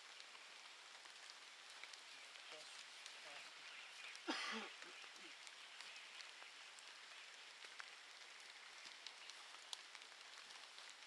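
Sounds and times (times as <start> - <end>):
faint steady hiss: 0.0 - 11.0
light ticks: 0.0 - 11.0.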